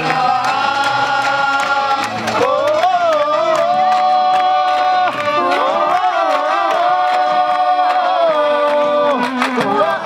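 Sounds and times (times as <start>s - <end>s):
voices singing long notes: 0.0s - 10.0s.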